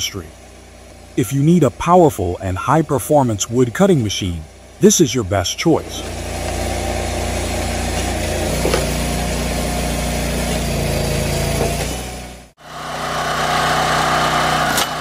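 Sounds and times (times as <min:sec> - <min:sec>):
log splitter engine running: 0:00.0 - 0:15.0.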